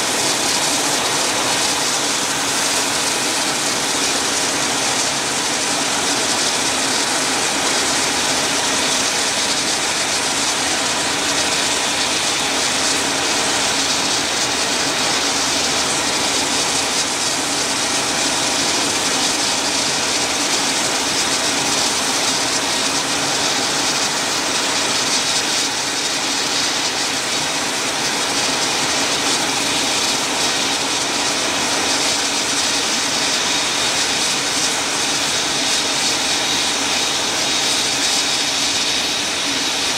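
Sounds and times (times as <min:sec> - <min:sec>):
dense rushing hiss: 0:00.0 - 0:39.9
helicopter turbine whine: 0:00.0 - 0:39.9.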